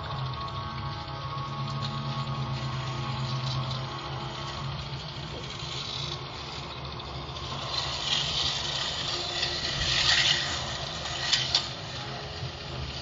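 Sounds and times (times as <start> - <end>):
motor hum: 0.0 - 13.0
toy coaster train rattling on track: 0.0 - 13.0.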